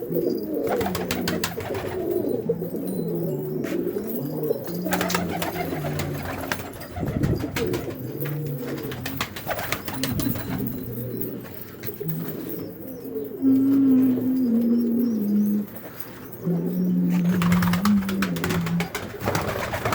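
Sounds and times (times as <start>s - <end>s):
pigeons cooing: 0.0s - 19.9s.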